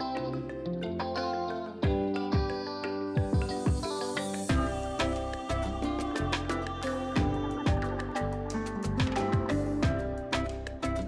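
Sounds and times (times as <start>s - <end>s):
instrumental music with drum beat: 1.8s - 11.0s.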